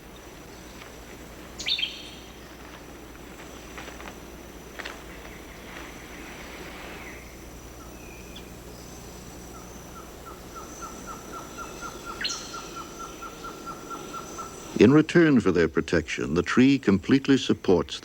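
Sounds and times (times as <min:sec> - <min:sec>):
repeated animal calls: 0:00.0 - 0:16.8
high insect drone: 0:00.0 - 0:18.0.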